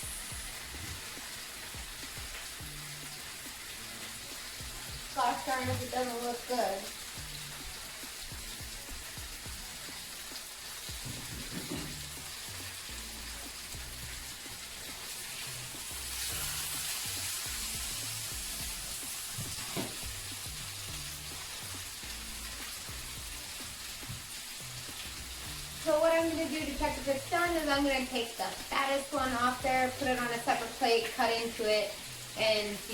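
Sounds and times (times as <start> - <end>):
background music with bass line: 0.0 - 6.2, 6.9 - 28.0, 29.2 - 30.5
chicken sizzling in a frying pan: 0.0 - 32.9.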